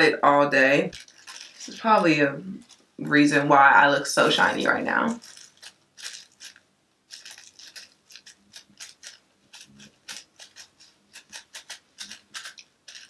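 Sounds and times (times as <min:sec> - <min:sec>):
paper rustling on skin: 0:00.9 - 0:03.0, 0:04.2 - 0:13.0.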